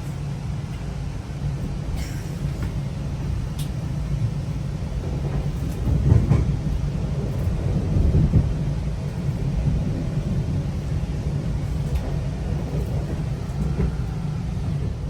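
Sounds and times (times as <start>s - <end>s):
train rumble inside coach: 0.0s - 15.0s.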